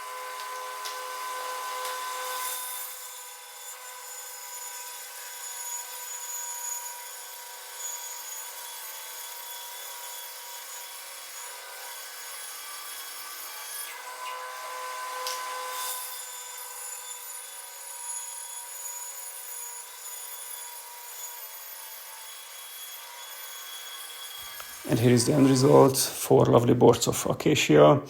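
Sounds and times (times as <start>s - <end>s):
bandsaw cutting through log: 0.0s - 26.4s.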